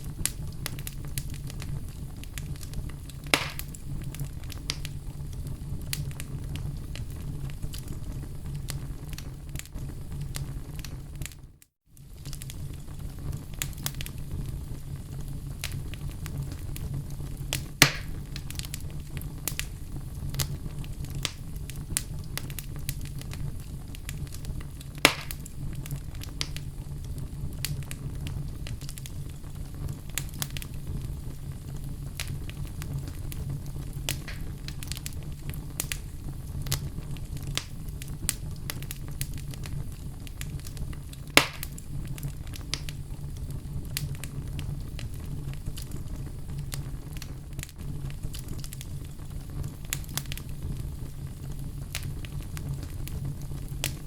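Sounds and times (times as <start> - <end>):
log fire crackling: 0.0 - 54.0
loud pops from burning wood: 0.0 - 54.0.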